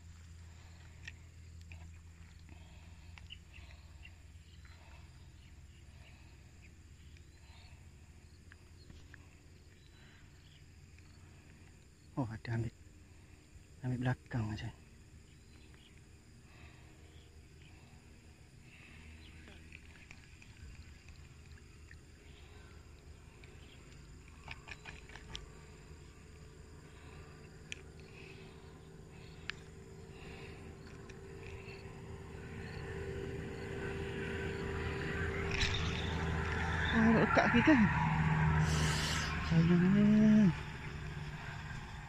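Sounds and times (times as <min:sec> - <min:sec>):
insects and birds chirping: 0:00.0 - 0:42.0
low steady rumble: 0:00.0 - 0:42.0.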